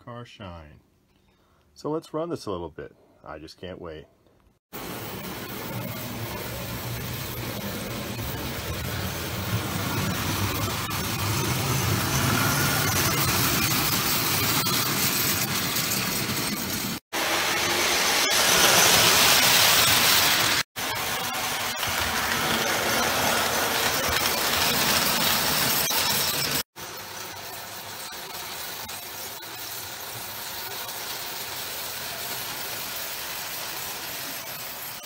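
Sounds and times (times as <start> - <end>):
toy train running on track: 4.8 - 35.0.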